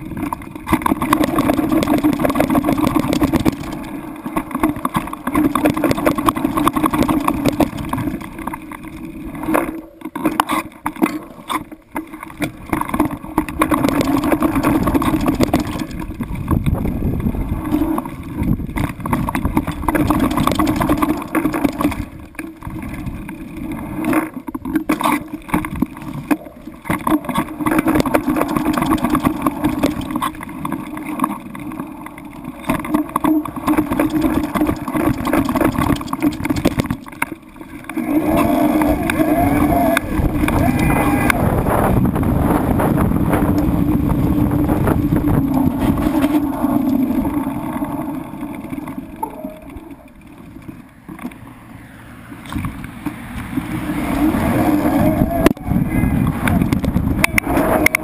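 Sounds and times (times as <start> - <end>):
motorboat engine running: 0.0 - 58.0.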